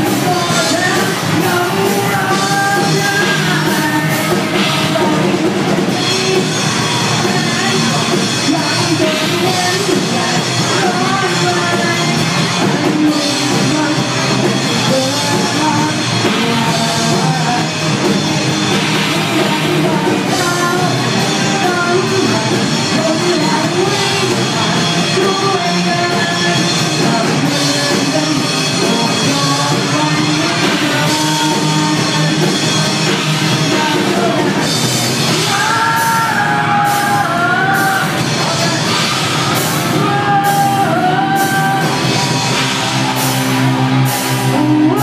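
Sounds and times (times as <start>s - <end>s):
lead singer: 0.0s - 45.0s
live rock band playing: 0.0s - 45.0s.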